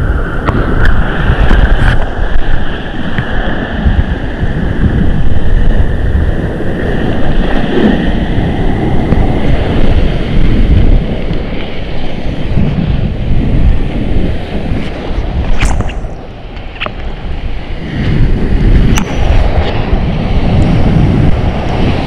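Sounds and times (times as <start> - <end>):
ocean surf: 0.0 - 22.0
wind buffeting microphone: 0.0 - 22.0.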